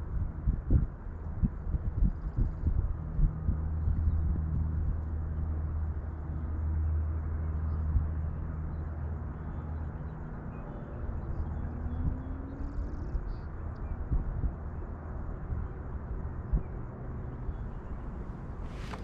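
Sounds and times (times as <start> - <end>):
low engine hum: 0.0 - 19.0
outdoor background noise: 0.0 - 19.0.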